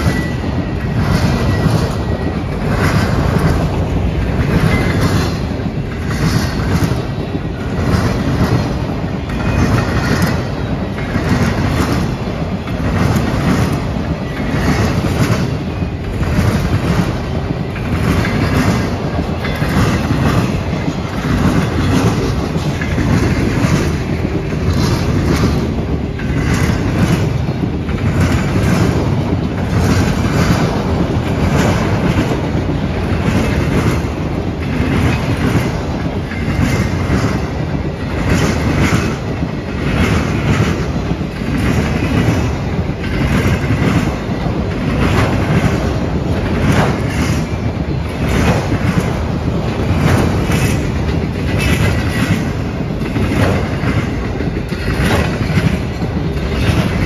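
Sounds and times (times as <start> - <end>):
train wheels rumbling on rail: 0.0 - 57.0
wheels clickety-clack: 0.0 - 57.0.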